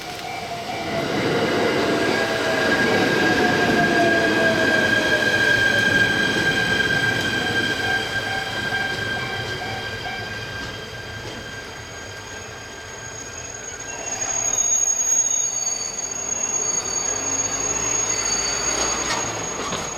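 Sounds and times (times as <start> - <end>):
train wheels squealing: 0.0 - 19.9.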